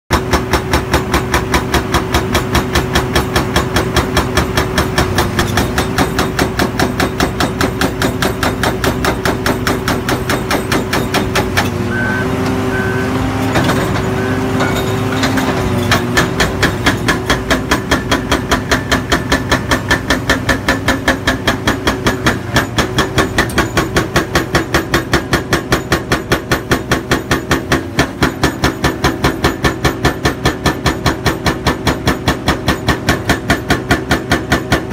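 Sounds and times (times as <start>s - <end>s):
hydraulic breaker hammering concrete: 0.1s - 34.9s
excavator engine drone: 0.2s - 34.9s.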